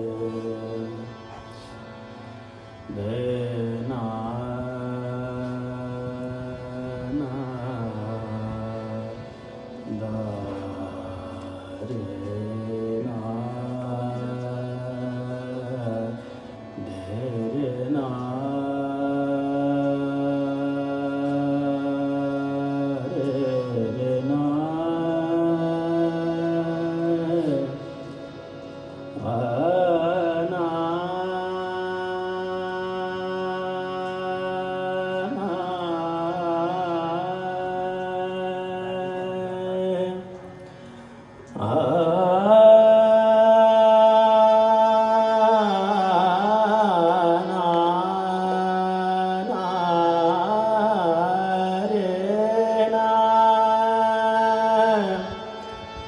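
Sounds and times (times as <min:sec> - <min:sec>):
person singing long notes: 0:00.0 - 0:56.0
sustained harmonium: 0:00.0 - 0:56.0.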